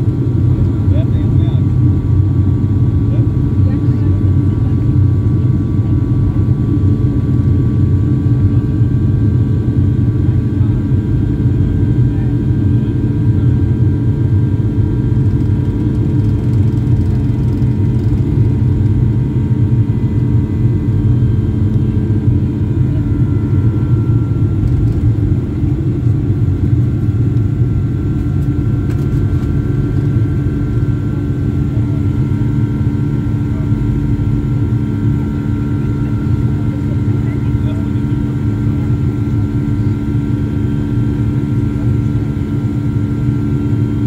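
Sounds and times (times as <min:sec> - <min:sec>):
jet engines rumbling in cabin: 0:00.0 - 0:44.0.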